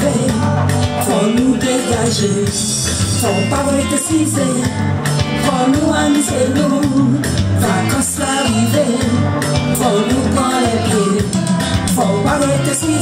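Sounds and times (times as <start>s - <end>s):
woman singing: 0.0s - 4.8s, 5.4s - 13.0s
music with steady bass beat: 0.0s - 13.0s.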